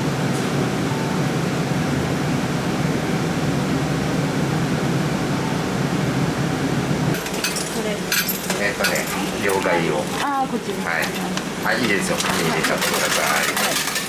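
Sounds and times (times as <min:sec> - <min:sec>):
vehicle cabin running noise: 0:00.0 - 0:13.4.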